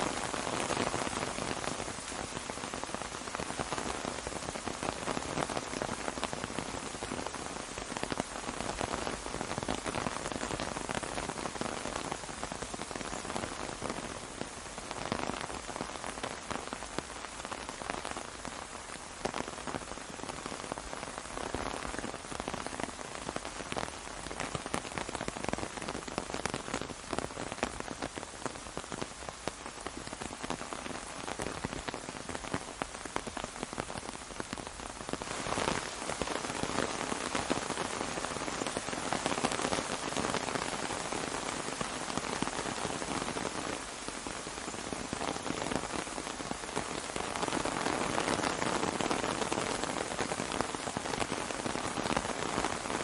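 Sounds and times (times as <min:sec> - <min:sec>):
rain on an umbrella: 0:00.0 - 0:53.0.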